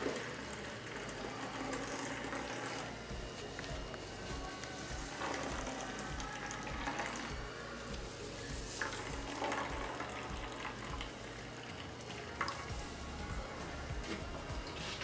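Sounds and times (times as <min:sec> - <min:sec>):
juice trickling into glass jar: 0:00.0 - 0:12.8.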